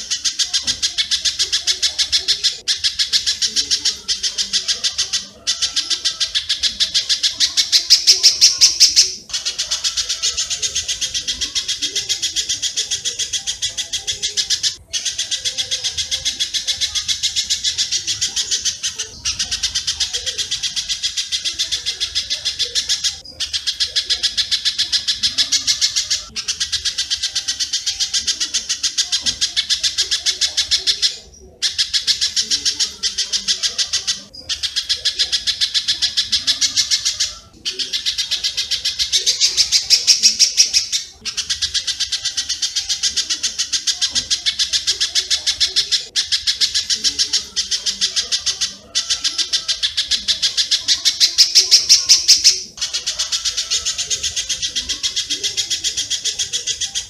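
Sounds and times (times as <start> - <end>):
rapid sharp bird chirps: 0.0 - 57.0.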